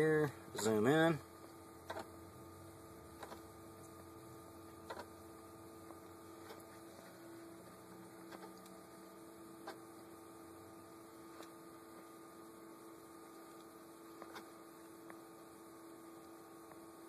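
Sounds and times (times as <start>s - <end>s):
quiet steady hum: 0.0s - 17.0s.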